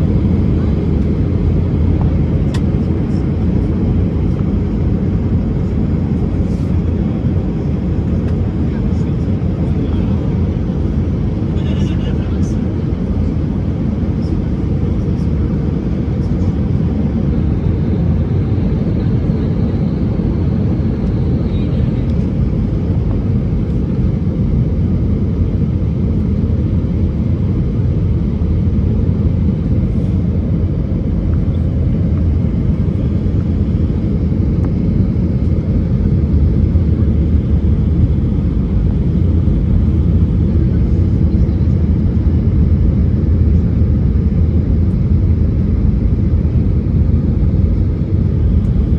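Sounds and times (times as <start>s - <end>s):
aircraft cabin engine roar: 0.0s - 48.9s.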